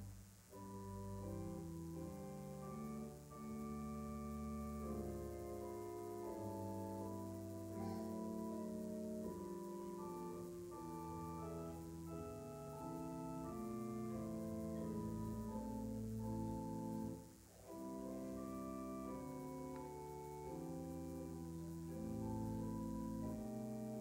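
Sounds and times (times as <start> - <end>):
slow keyboard chords: 0.0 - 24.0.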